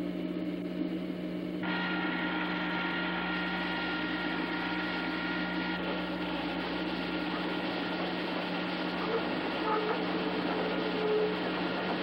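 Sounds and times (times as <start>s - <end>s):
electric machine hum with hiss: 0.0s - 12.0s.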